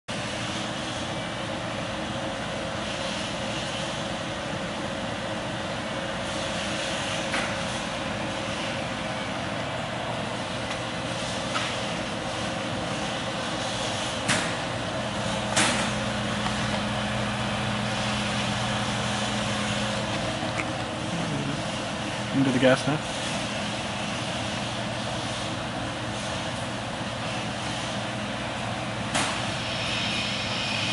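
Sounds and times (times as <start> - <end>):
machinery hum: 0.1 - 30.9.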